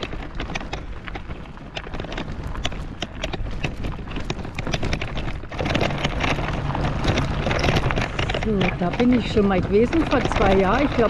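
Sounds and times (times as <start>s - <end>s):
footsteps on dirt path: 0.0s - 11.0s.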